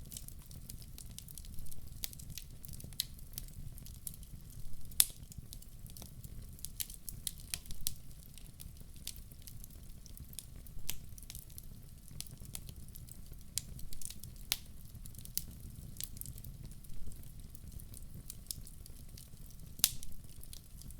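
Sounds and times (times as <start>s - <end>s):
low rumble of flames: 0.0s - 20.9s
wood fire crackling and popping: 0.0s - 20.9s.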